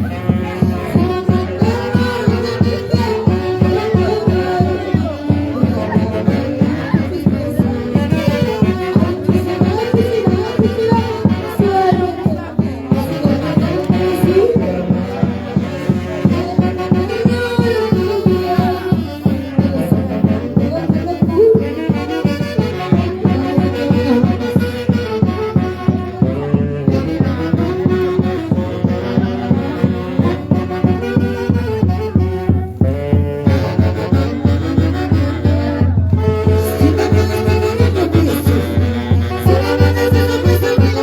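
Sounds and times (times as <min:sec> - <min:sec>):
live instrumental dance band: 0:00.0 - 0:41.0.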